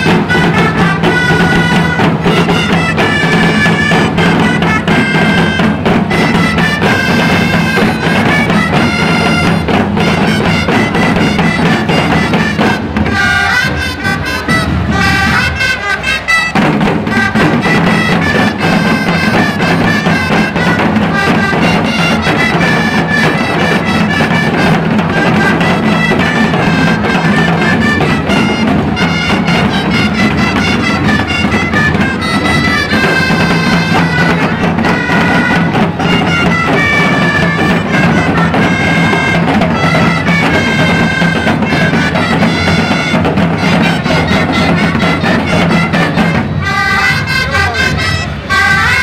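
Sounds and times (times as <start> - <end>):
drums keeping steady beat: 0.0 - 49.0
shawms playing reedy melody: 0.0 - 49.0.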